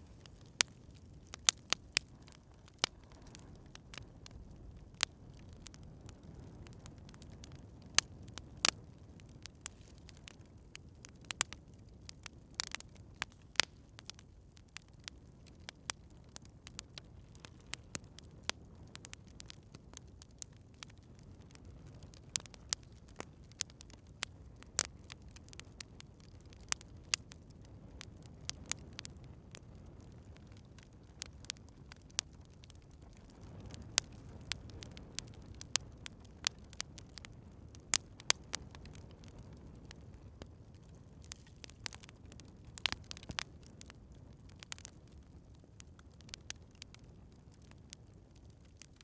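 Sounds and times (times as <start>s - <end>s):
campfire pops and snaps: 0.0s - 49.0s
low background of burning: 0.0s - 49.0s.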